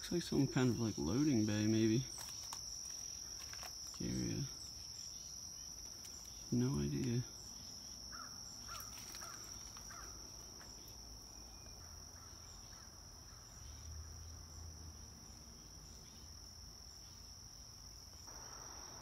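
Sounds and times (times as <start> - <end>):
insects droning: 0.0 - 19.0
low outdoor background: 0.0 - 19.0.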